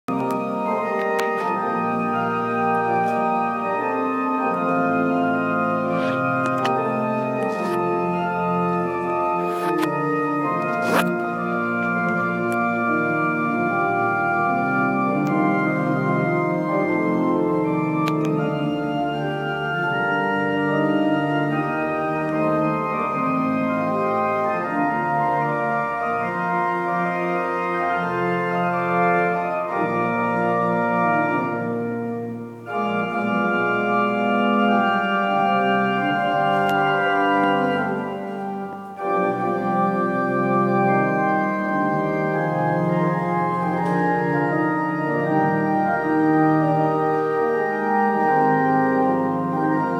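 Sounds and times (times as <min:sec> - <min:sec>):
organ playing held chords: 0:00.0 - 0:49.9.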